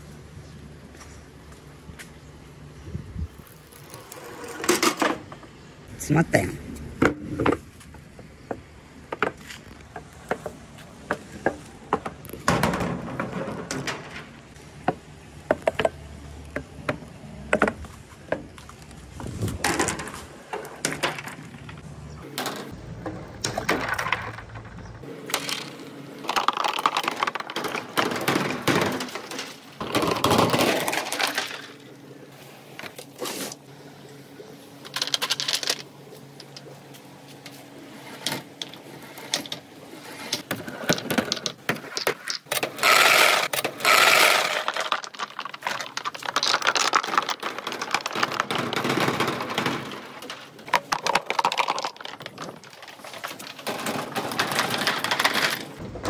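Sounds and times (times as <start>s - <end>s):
balls rolling and clacking in gutter: 3.3s - 33.7s, 34.5s - 56.0s.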